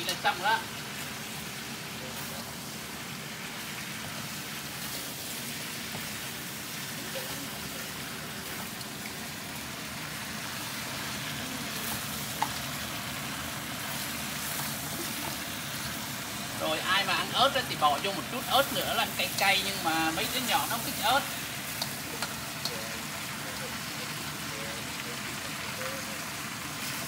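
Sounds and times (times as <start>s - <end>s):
seafood sizzling in a wok: 0.0s - 27.0s.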